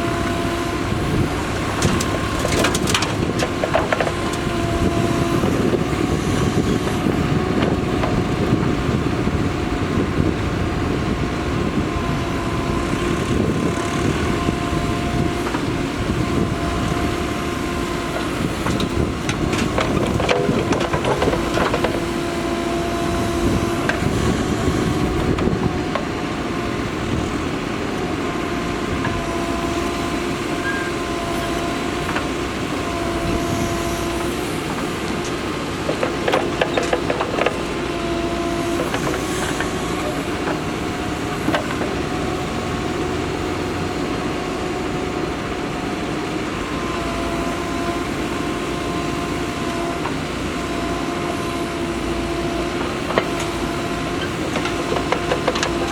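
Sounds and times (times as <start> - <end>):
diesel engine running: 0.0 - 55.9
engine whine: 0.0 - 55.9.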